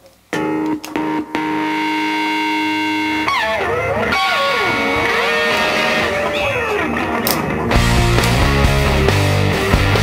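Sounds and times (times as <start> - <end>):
electric guitar sliding notes: 0.3 - 10.0.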